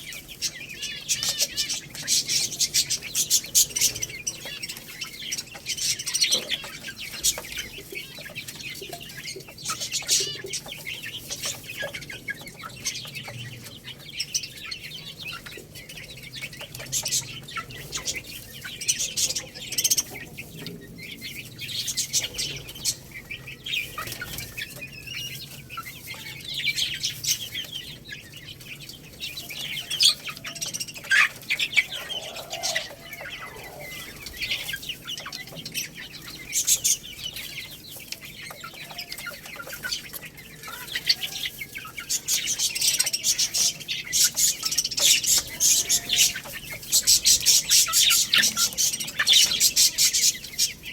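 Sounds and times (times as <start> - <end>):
chicken clucking call: 0.0 - 50.9
chicks pecking and peeping: 0.0 - 50.9.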